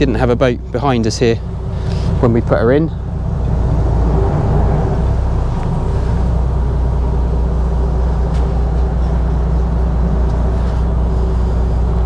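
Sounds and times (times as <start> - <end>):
diesel engines rumbling: 0.0 - 12.0.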